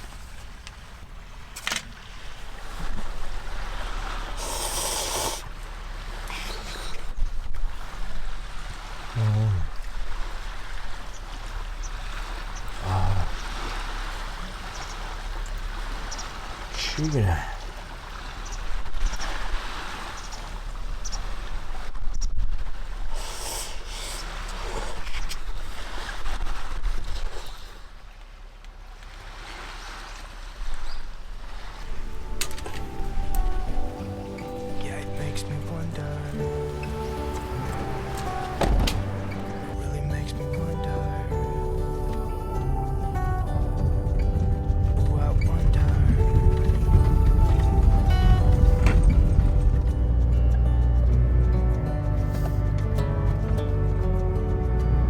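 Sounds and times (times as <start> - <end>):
wind rumbling on microphone: 0.0 - 16.8, 17.6 - 55.0
sea waves washing on beach: 0.0 - 54.9.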